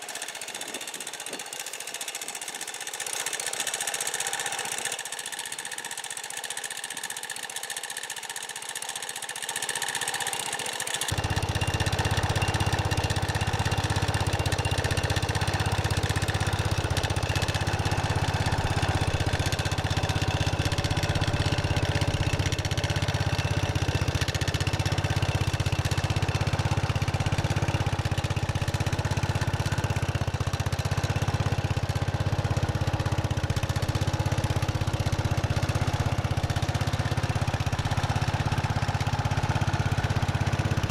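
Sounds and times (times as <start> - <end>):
garden tractor engine idling: 0.0 - 40.9.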